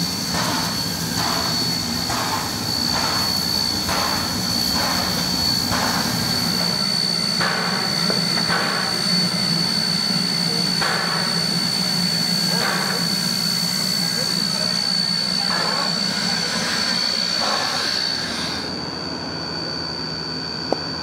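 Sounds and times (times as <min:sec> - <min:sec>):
steam locomotive puffing and hissing: 0:00.0 - 0:18.8.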